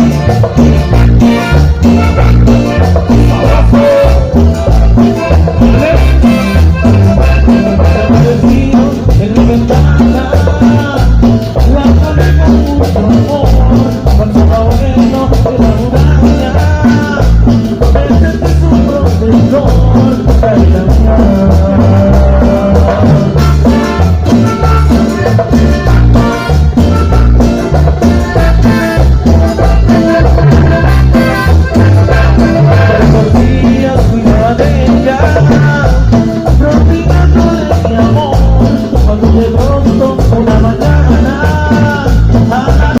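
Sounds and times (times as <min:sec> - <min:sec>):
cumbia band music with heavy bass: 0:00.0 - 0:43.0.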